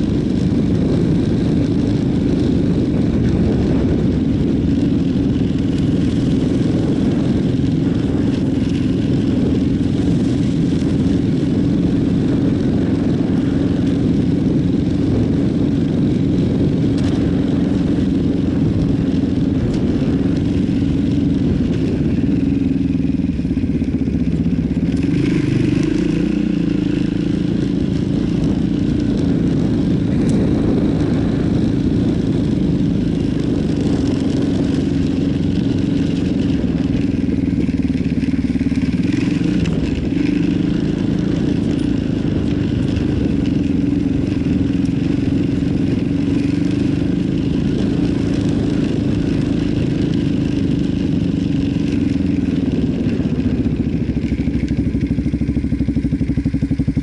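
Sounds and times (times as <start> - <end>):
quad engine running: 0.0 - 57.0.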